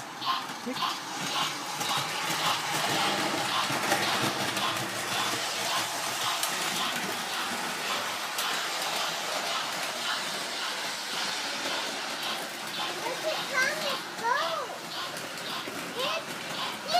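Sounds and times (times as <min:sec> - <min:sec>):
model train running on track: 0:00.0 - 0:16.9.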